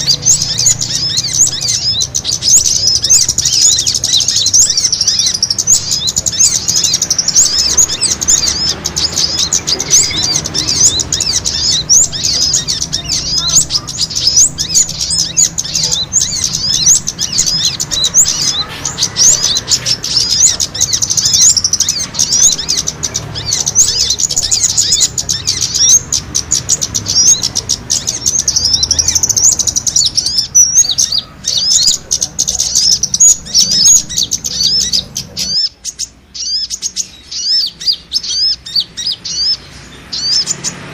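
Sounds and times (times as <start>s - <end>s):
small birds chittering: 0.0s - 40.9s.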